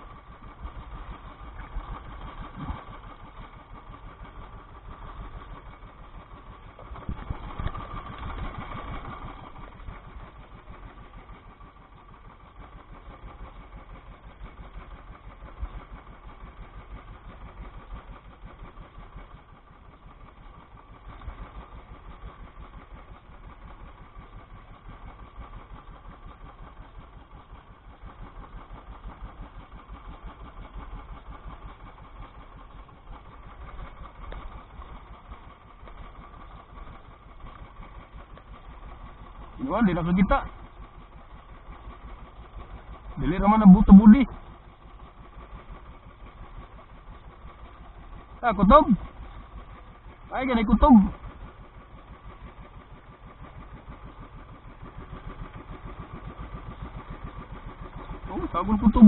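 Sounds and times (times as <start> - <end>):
small boat engine puttering: 0.0 - 59.0.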